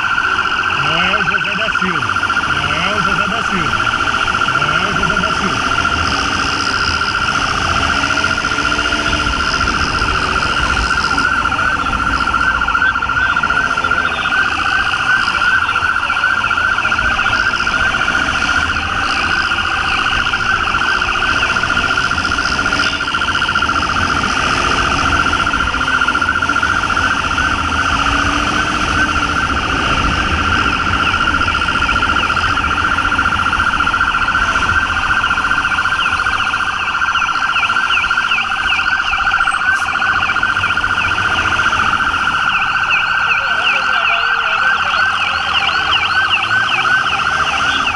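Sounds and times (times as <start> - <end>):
police siren warbling: 0.0 - 47.9
motorcycle engine: 2.1 - 47.9.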